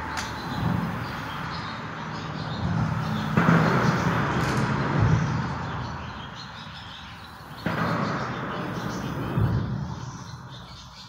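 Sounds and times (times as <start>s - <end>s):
highway traffic overhead: 0.0s - 11.0s.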